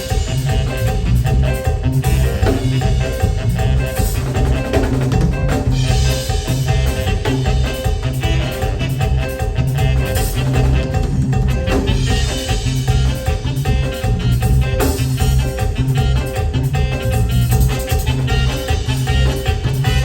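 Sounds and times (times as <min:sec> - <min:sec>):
live band playing latin dance music: 0:00.0 - 0:20.0
pulsing bass line: 0:00.0 - 0:20.0.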